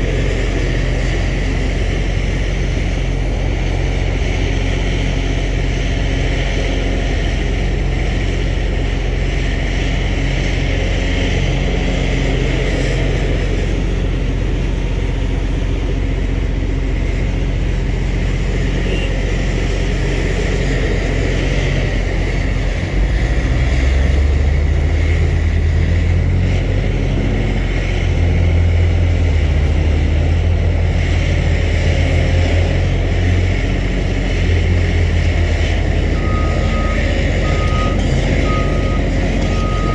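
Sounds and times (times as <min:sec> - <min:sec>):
excavator diesel engine under load: 0:00.0 - 0:39.9.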